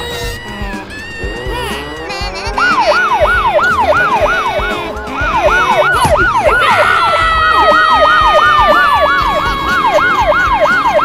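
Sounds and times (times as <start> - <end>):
police siren yelp: 0.0 - 11.0
long tone sliding downward: 0.2 - 11.0.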